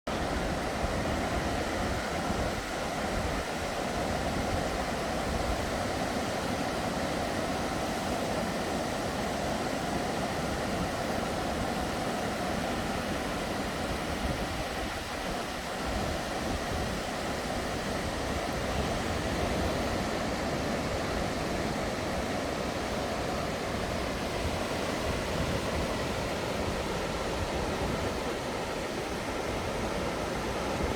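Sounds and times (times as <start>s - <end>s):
ocean surf on a beach: 0.1s - 30.9s.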